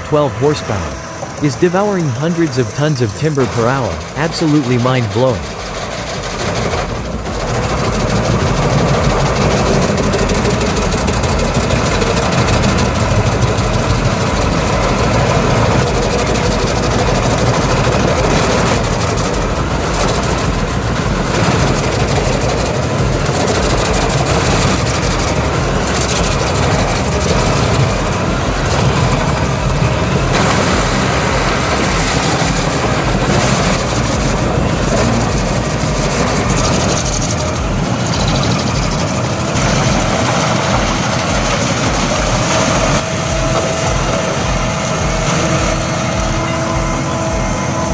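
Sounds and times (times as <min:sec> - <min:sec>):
wood grinder shredding timber: 0:00.0 - 0:47.9.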